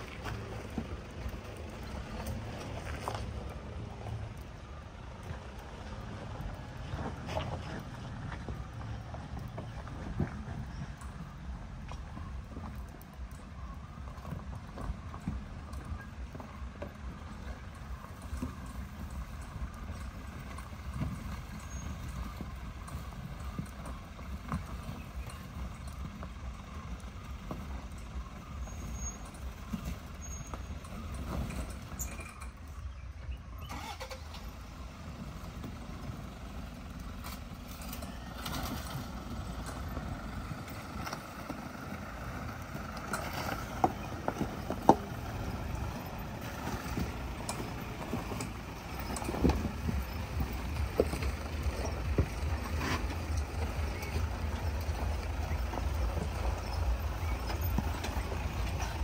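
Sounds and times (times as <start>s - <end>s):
off-road vehicle engine rumble: 0.0s - 59.0s.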